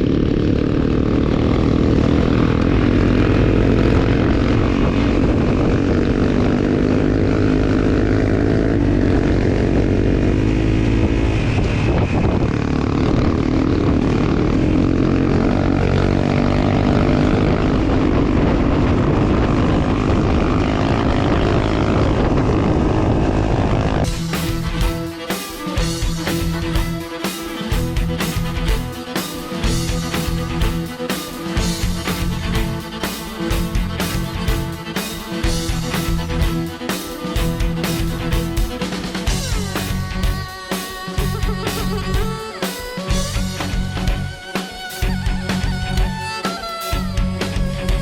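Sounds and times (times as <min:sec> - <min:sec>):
motorcycle engine droning: 0:00.0 - 0:48.0.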